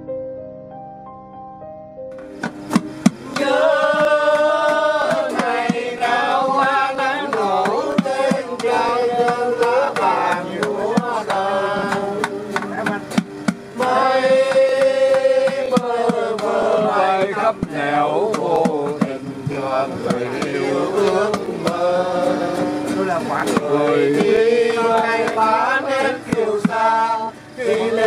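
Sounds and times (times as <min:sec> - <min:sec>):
strummed acoustic guitar: 0:02.2 - 0:28.0
men singing together: 0:03.1 - 0:28.0.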